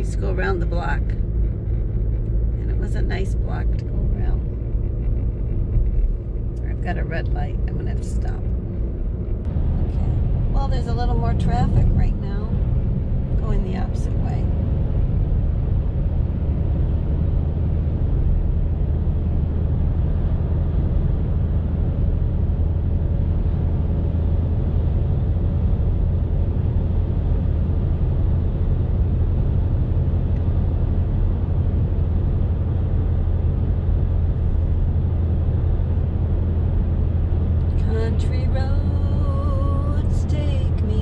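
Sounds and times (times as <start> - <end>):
car rumble from inside cabin: 0.0 - 41.0.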